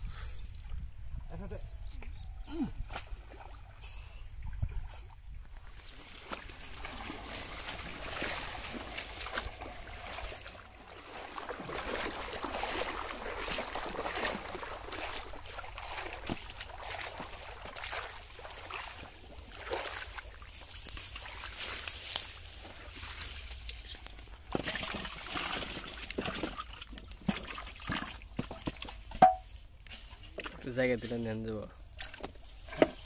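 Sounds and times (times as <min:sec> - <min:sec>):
person wading through water: 0:02.6 - 0:29.1.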